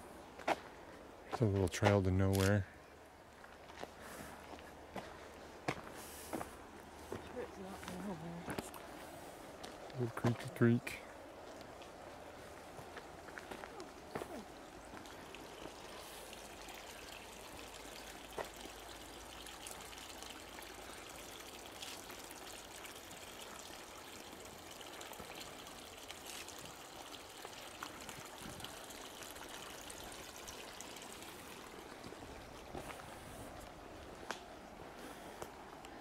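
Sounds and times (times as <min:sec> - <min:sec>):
creek trickling: 0:00.0 - 0:36.0.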